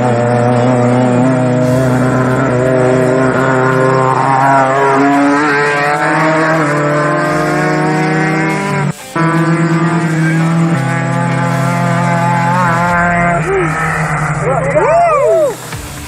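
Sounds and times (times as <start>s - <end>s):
off-road vehicle engines running: 0.0s - 16.0s
vehicle passing by: 0.0s - 16.0s.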